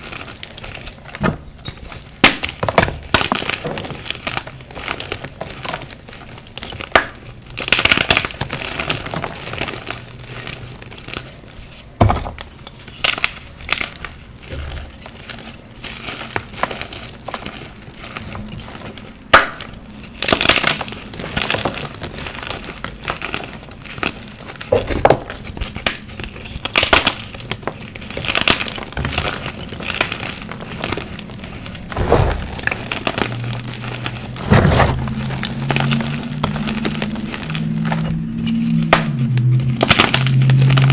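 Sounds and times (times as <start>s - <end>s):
chalk crunching and crackling: 0.0s - 40.9s
powder rustling: 0.0s - 40.9s.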